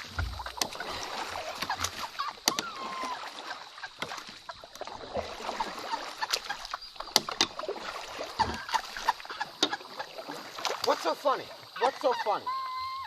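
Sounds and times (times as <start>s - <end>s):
paddle knocks and splashes: 0.0s - 12.2s
paddles dipping in water: 0.0s - 13.0s.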